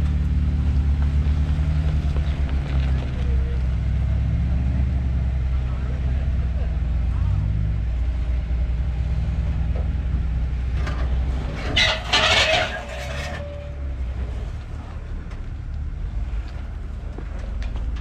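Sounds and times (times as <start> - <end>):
vehicle engine at low revs: 0.0 - 18.0.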